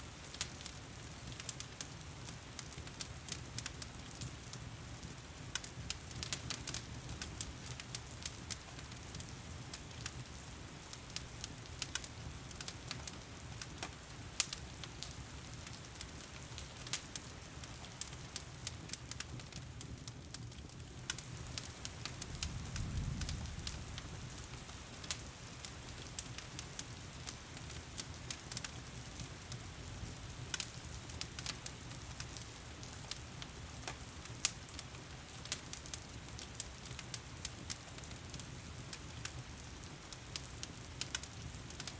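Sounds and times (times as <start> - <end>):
wood fire crackling and popping: 0.1 - 41.9.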